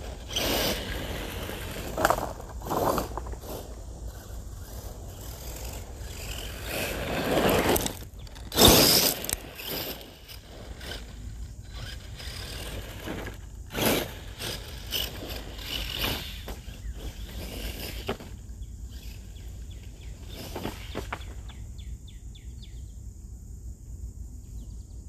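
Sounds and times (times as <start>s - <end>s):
tyres crunching over gravel: 0.0s - 21.6s.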